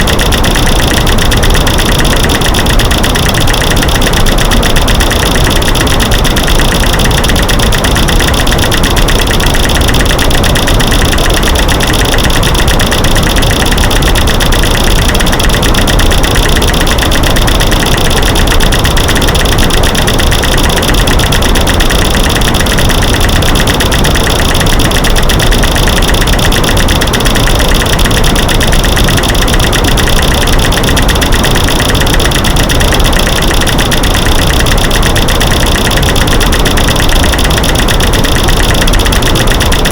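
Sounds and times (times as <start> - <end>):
rapid clicking and cracking: 0.0 - 39.9.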